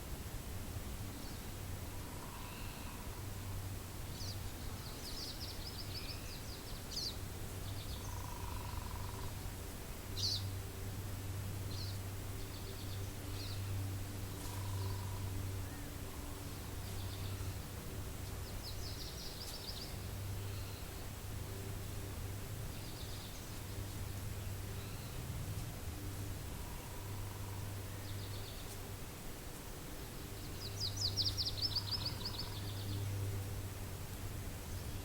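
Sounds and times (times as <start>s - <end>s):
steady wind: 0.0s - 35.0s
small birds trilling and chirping: 1.1s - 10.6s, 11.6s - 21.3s, 22.0s - 25.8s, 26.5s - 29.0s, 29.6s - 35.0s.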